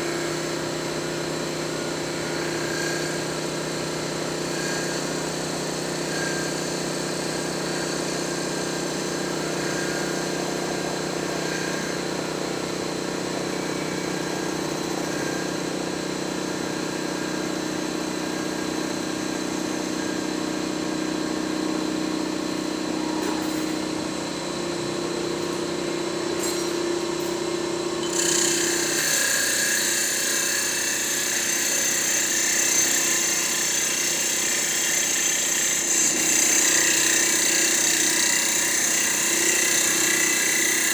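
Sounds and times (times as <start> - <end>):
lathe motor hum: 1.8 - 40.9.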